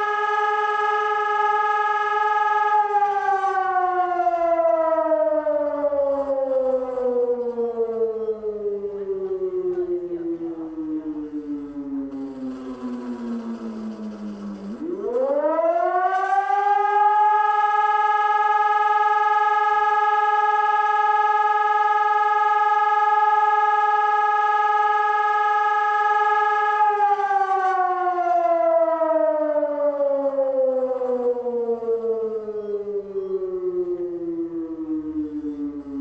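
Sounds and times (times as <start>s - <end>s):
civil defence siren: 0.0s - 36.0s.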